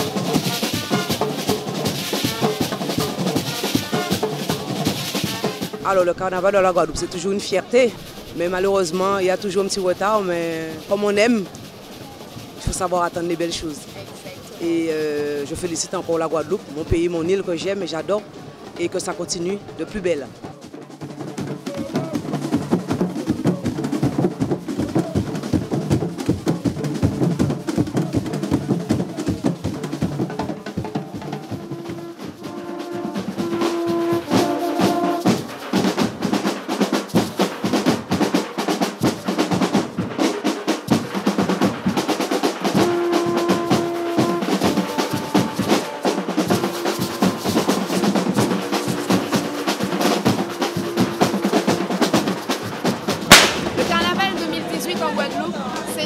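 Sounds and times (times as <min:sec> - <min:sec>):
fast carnival drumming: 0:00.0 - 0:56.0.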